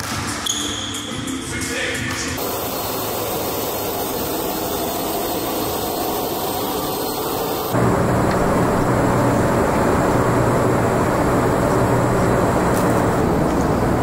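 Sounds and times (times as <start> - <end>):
jet engines droning: 2.4 - 14.0
low steady hum: 2.4 - 14.0.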